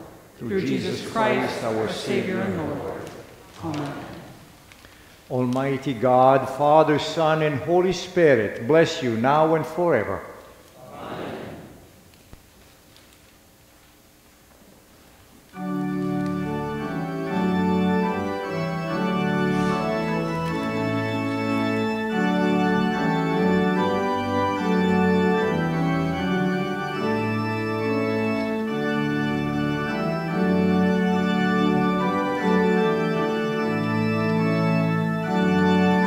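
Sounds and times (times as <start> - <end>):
church organ chords: 0.0 - 4.4, 5.3 - 10.6, 15.5 - 36.0.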